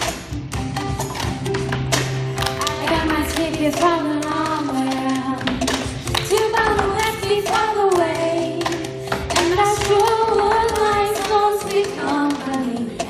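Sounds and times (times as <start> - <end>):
hand claps: 1.0 - 12.4
plastic cups tapped and slapped: 1.0 - 12.4
girls singing: 2.5 - 13.0.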